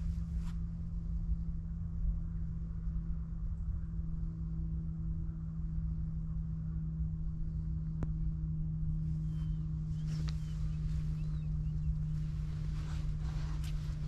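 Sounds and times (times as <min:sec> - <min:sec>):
low hum over rumble: 0:00.0 - 0:14.0.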